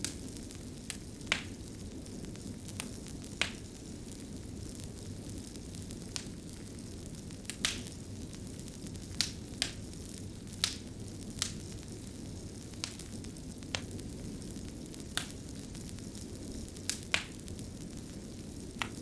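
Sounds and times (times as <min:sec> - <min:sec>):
fire crackling and popping: 0:00.0 - 0:19.0
low rumble of burning: 0:00.0 - 0:19.0.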